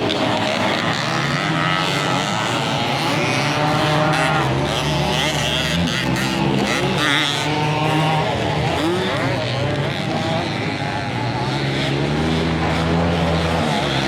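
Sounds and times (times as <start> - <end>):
dirt bike engines racing: 0.0 - 14.0.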